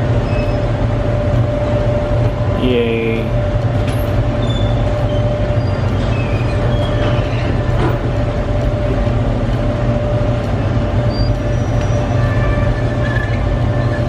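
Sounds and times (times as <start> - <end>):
mechanical rumble with hum: 0.0 - 14.0.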